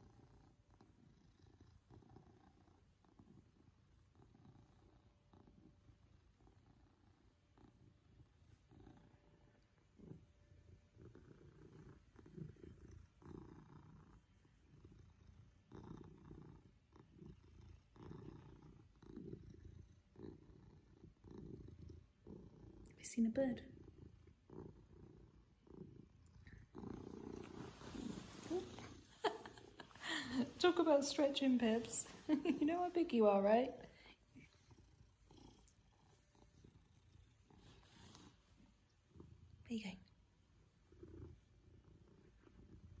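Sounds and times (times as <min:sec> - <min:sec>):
cat purring: 0:00.0 - 0:43.0.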